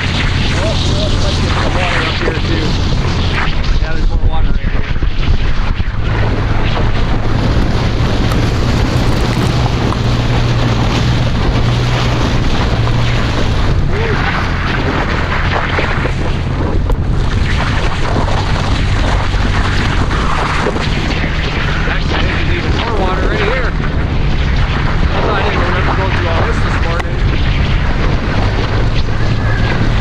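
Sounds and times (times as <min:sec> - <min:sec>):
car engine humming: 0:00.0 - 0:04.0, 0:05.8 - 0:30.0
tire chains rattling and rumbling: 0:05.4 - 0:30.0.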